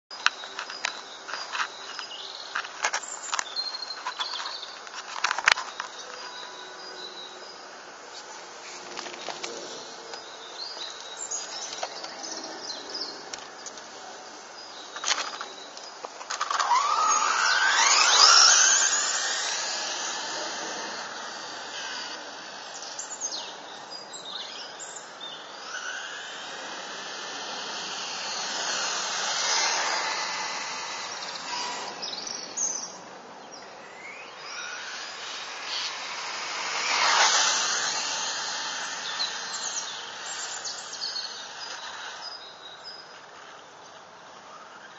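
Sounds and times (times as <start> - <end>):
rc car motor whine passing: 0.2 - 44.9.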